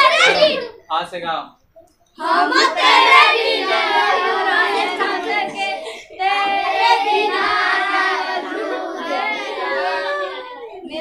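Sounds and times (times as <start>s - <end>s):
boys singing together: 2.1s - 11.0s.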